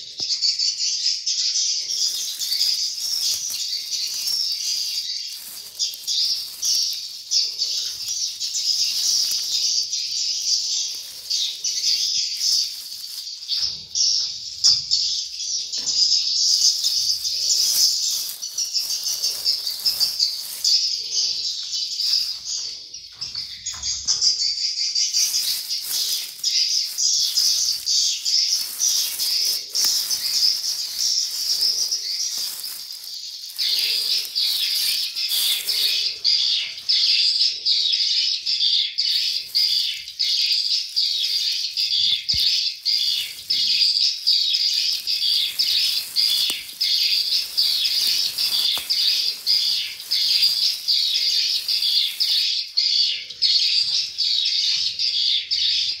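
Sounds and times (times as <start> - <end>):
nestlings chirping: 0.0 - 56.0.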